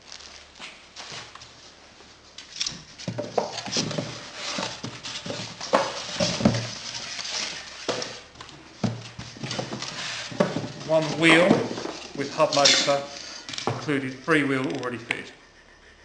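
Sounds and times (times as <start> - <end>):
cardboard and packing blocks handled: 0.0 - 15.2.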